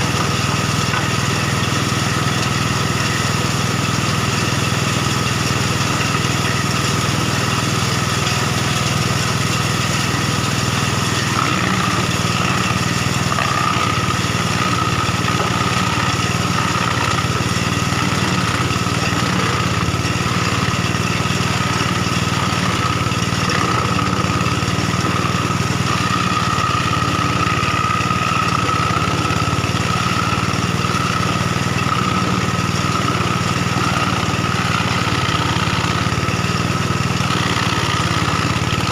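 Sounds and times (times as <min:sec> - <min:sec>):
wood crusher engine running: 0:00.0 - 0:38.9.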